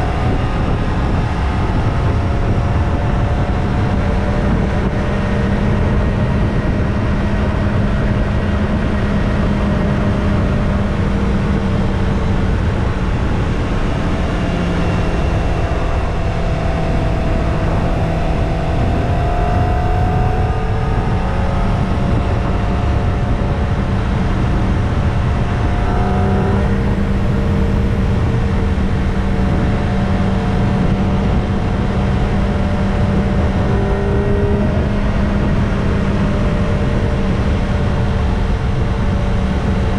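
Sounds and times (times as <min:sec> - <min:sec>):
motorcycle engine running: 0:00.0 - 0:39.9
steady rush of noise: 0:00.0 - 0:39.9.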